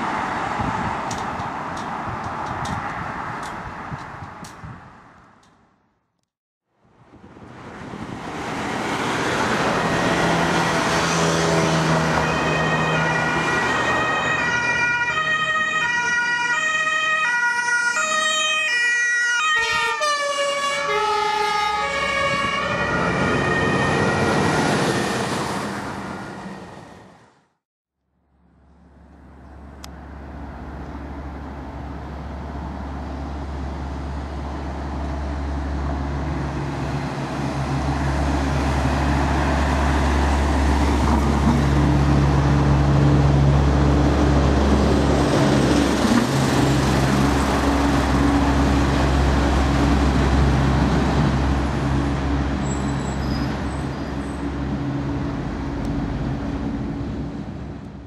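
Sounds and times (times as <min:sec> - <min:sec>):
vehicles driving by: 0:00.0 - 0:05.7, 0:06.9 - 0:27.5, 0:28.2 - 0:58.0.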